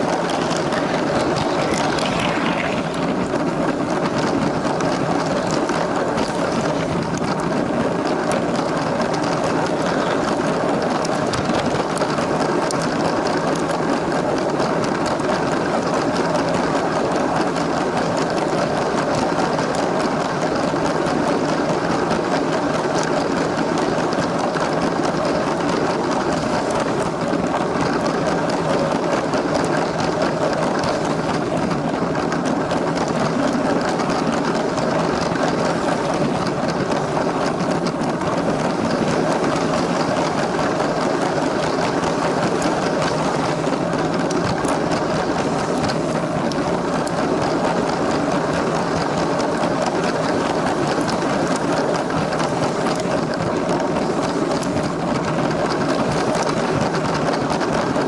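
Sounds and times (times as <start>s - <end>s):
plastic wheels rolling on track: 0.0s - 58.0s.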